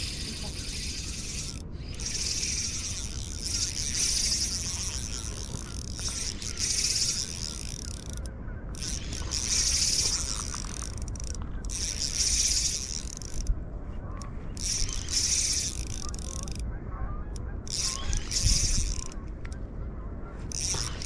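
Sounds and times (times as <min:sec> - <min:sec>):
fishing reel whirring: 0:00.0 - 0:13.6, 0:14.5 - 0:19.6, 0:20.5 - 0:21.0
wind rumble on microphone: 0:00.0 - 0:21.0.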